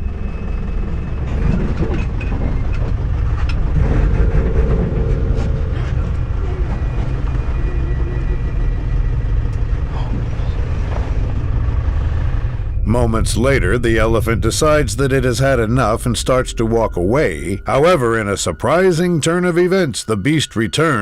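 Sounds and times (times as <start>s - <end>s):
bus engine rumbling: 0.0s - 19.0s.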